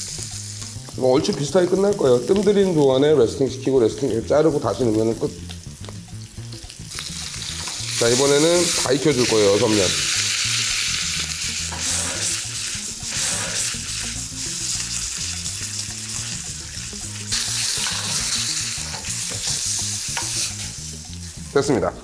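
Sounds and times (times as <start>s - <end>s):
steak sizzling in oil: 0.0s - 21.9s.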